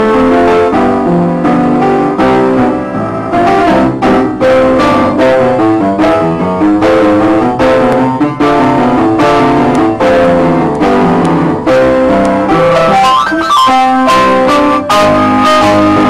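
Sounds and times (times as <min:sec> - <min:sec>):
instrumental music with steady beat: 0:00.0 - 0:16.0.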